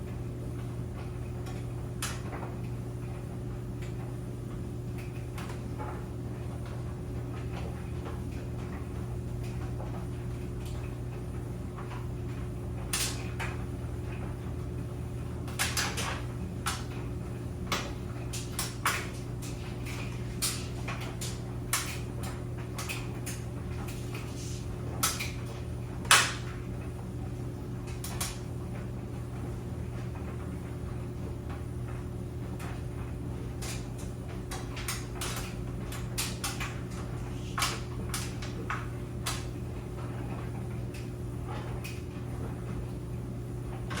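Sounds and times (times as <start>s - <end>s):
clothes dryer humming: 0.0s - 44.0s.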